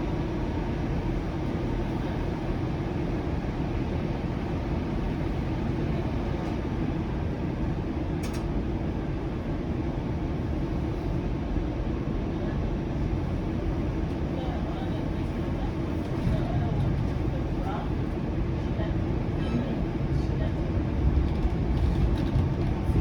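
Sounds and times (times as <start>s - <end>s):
streetcar interior rumble and hum: 0.0s - 23.0s.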